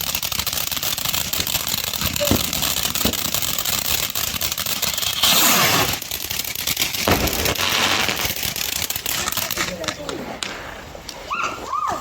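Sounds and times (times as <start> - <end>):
fireworks hissing: 0.0 - 11.2
fireworks crackling pops: 0.0 - 11.6.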